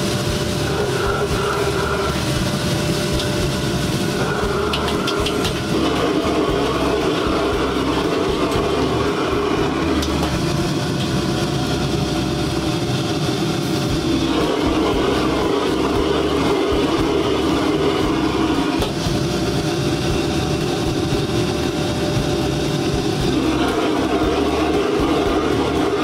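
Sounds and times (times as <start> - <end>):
gas burner rushing: 0.0 - 26.0
noodles sizzling in a wok: 0.0 - 26.0.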